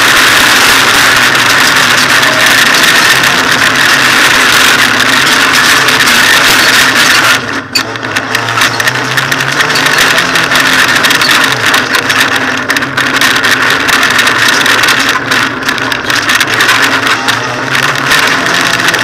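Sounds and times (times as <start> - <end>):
car engine running: 0.0 - 19.0
road noise: 0.0 - 19.0.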